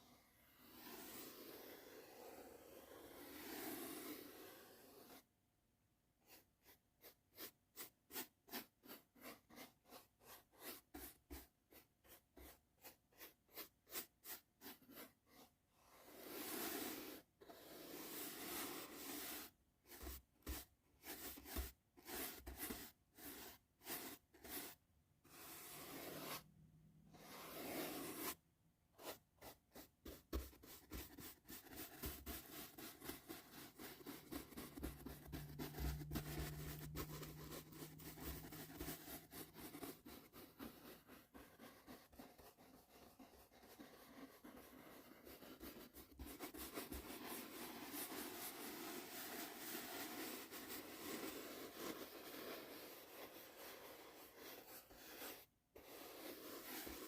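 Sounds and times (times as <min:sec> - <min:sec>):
soft brush strokes: 0:00.0 - 0:05.3, 0:06.2 - 0:57.0.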